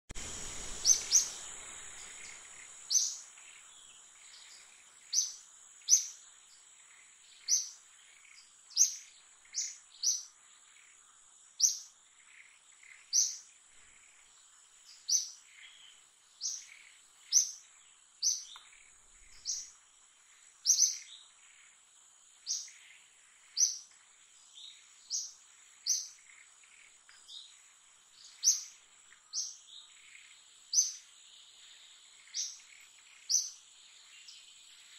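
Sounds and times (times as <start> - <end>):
bird chirping: 0.2 - 34.9.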